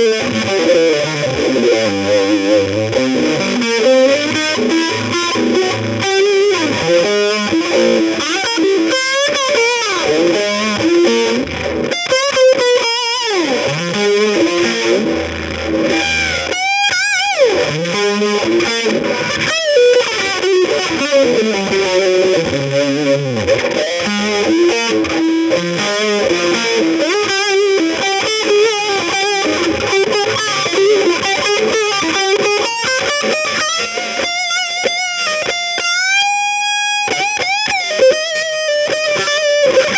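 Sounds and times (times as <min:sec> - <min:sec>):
distorted electric guitar melody: 0:00.0 - 0:39.9.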